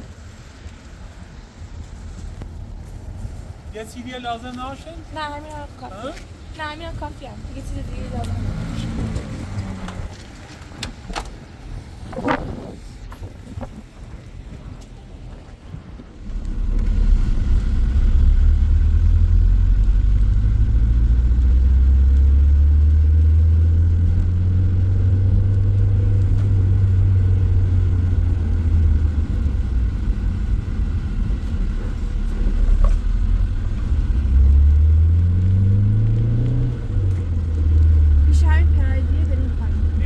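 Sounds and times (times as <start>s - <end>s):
vehicle engine driving and revving: 0.0s - 40.0s.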